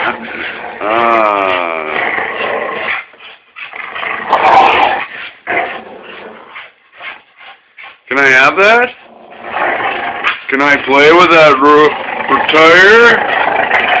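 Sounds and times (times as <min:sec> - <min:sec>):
dogs growling in play: 0:00.0 - 0:07.5, 0:08.8 - 0:14.0.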